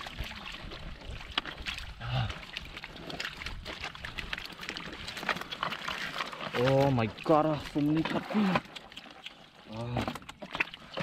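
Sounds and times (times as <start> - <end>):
fish splashing in muddy water: 0.0 - 11.0.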